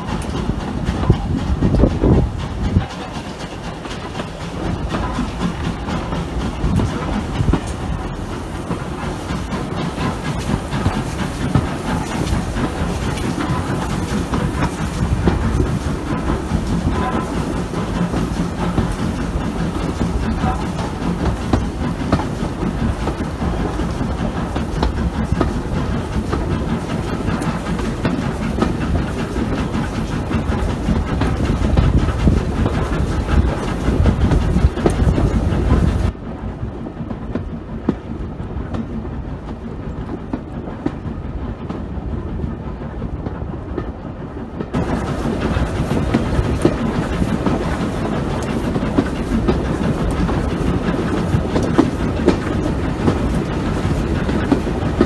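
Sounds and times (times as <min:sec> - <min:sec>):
wheels clicking over rail joints: 0:00.0 - 0:36.2, 0:36.8 - 0:55.0
train running noise: 0:00.0 - 0:55.0.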